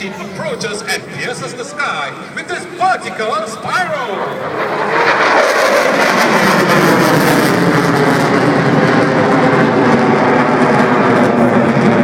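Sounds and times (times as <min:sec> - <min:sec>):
loud fighter jet engines: 0:00.0 - 0:12.0.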